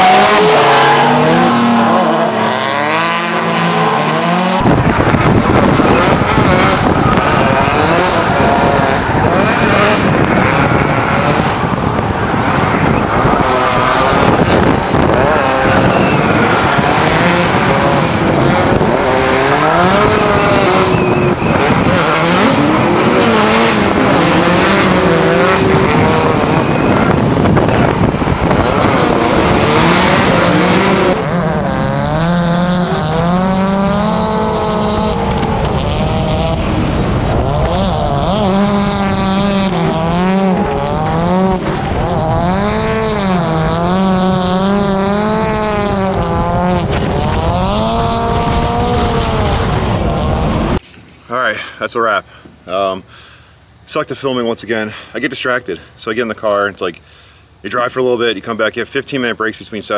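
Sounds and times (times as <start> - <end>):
tires squealing: 0.0 - 50.8
car engines revving: 0.0 - 59.9.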